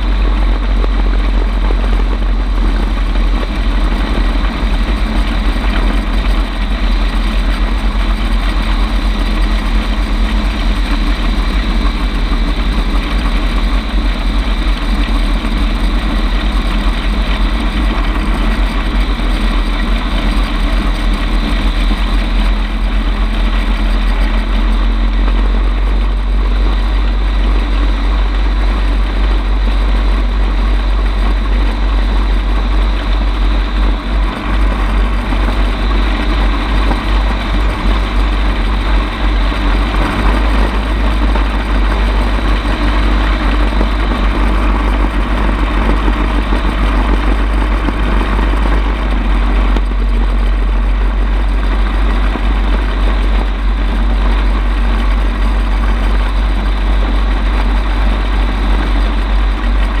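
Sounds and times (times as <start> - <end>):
aircraft engine and propeller rumble: 0.0 - 60.0
dense rushing noise: 0.0 - 60.0.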